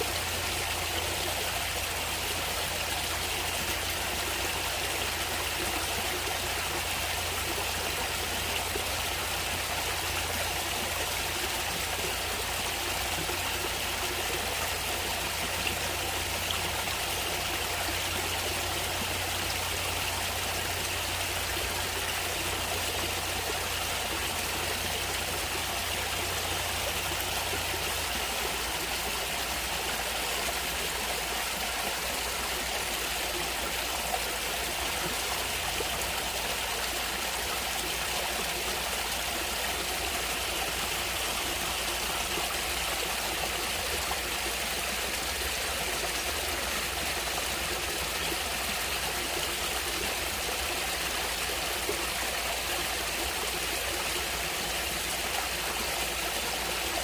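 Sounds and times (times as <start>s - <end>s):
running water flowing: 0.0s - 57.0s.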